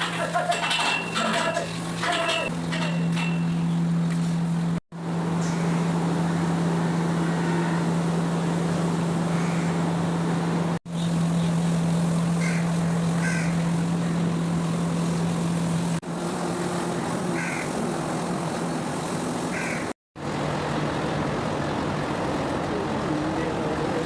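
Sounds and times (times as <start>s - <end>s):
low machine hum: 0.0s - 19.4s.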